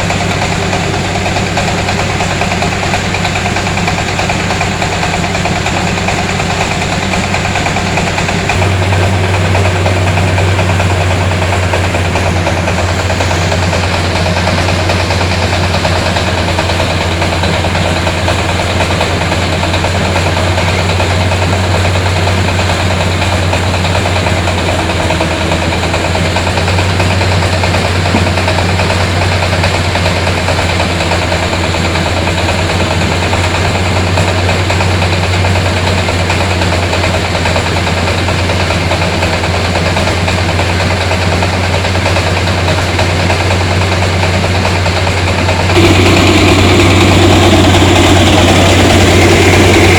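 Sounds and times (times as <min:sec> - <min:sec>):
rice huller engine humming: 0:00.0 - 0:49.9.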